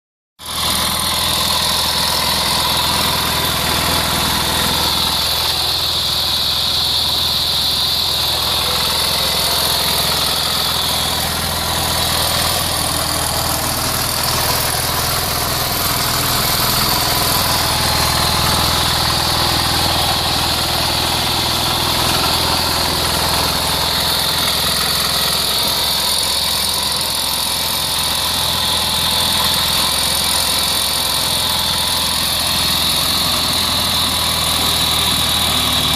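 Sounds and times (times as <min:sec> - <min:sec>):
diesel road saw engine running: 0:00.4 - 0:35.9.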